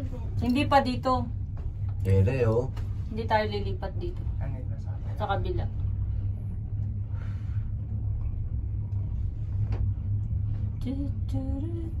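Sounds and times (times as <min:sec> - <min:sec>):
gondola cabin rumble: 0:00.0 - 0:12.0.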